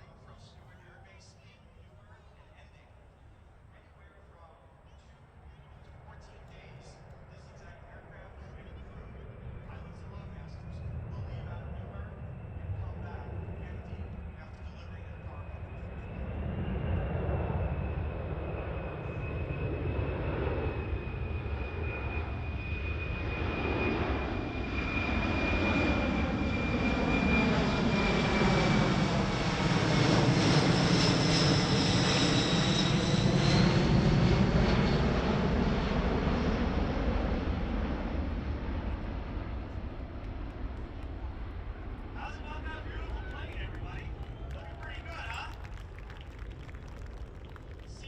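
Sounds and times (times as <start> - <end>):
jet engines flyby rumble and whine: 0.0 - 48.0.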